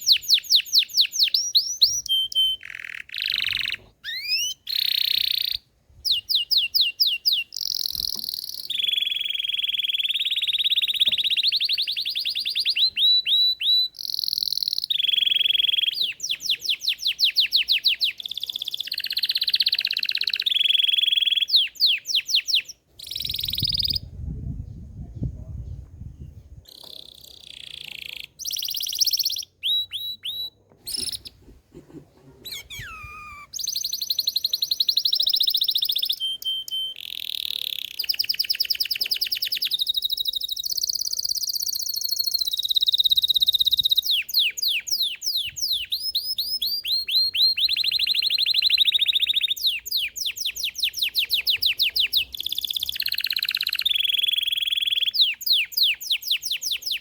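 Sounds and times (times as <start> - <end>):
canary singing trills: 0.0 - 24.1, 26.7 - 31.4, 32.2 - 57.0.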